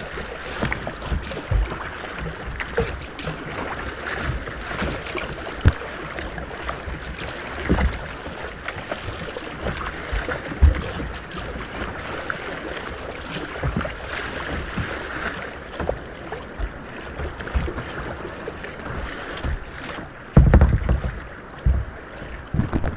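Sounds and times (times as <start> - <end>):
low thumps on hull: 0.0 - 22.9
water splashing against kayak: 0.0 - 22.9.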